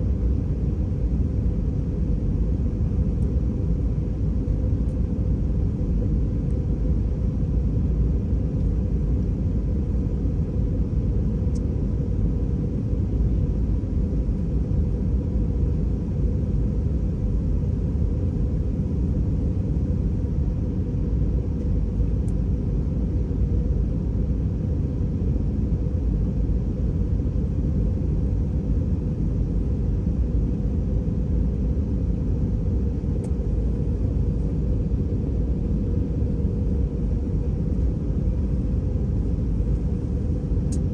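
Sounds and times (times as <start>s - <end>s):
airliner low rumble: 0.0s - 40.9s
faint steady hum: 0.0s - 40.9s.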